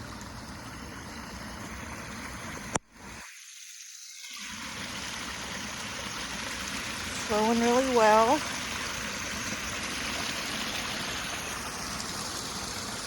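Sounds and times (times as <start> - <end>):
water rushing down ditch: 0.0 - 3.2, 4.0 - 13.0.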